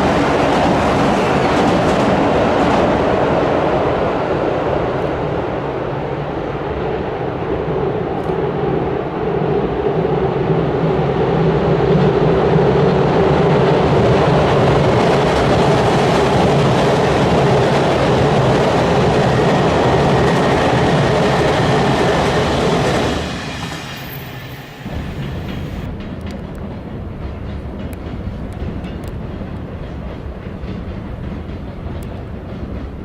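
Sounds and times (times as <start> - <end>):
train crossing a bridge: 0.0 - 33.0.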